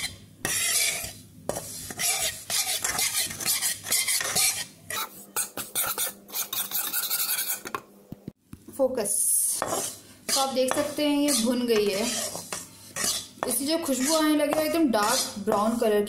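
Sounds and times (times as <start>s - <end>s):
spatula scraping a pan: 0.0s - 7.8s, 9.4s - 16.0s.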